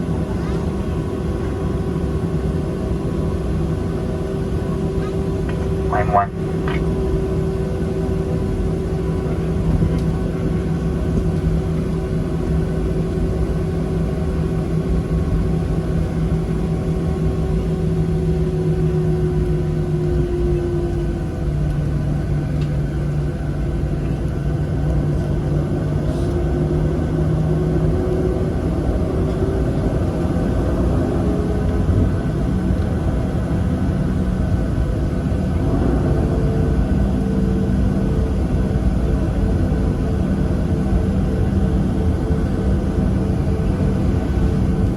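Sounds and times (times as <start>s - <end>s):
aircraft cabin engine hum: 0.0s - 44.9s.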